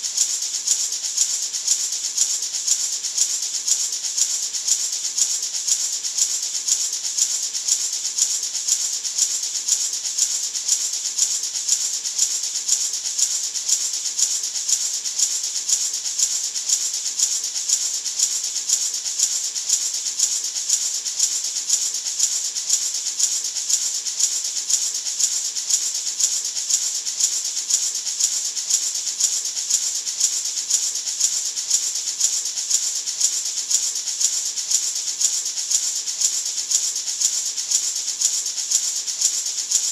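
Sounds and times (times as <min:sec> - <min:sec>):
maraca rattling: 0:00.0 - 0:39.9.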